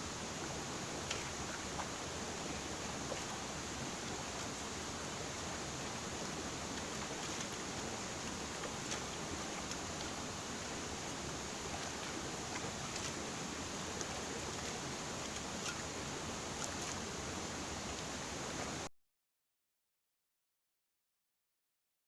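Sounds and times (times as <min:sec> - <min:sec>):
river water flowing: 0:00.0 - 0:18.9.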